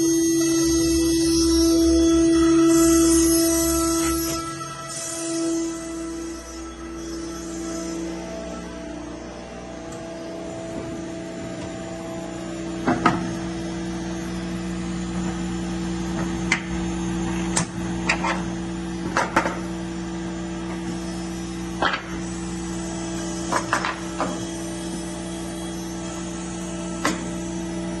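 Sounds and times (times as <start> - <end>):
steady electrical hum: 0.0 - 28.0.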